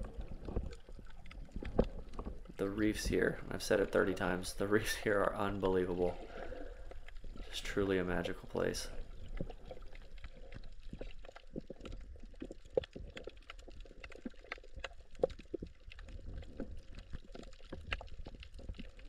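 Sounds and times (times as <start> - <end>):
low water rumble: 0.0 - 19.0
sharp crackling clicks underwater: 0.0 - 19.0.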